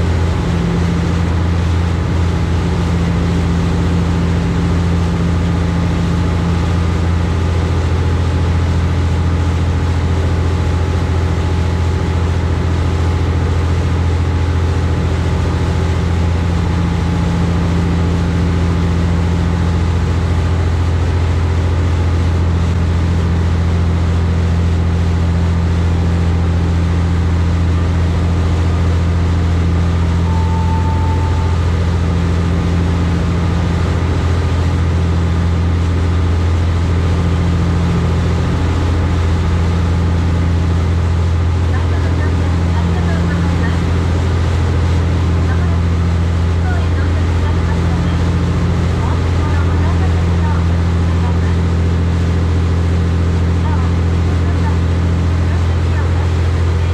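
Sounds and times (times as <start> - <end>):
boat engines droning: 0.0 - 56.9
water rushing against hull: 0.0 - 56.9.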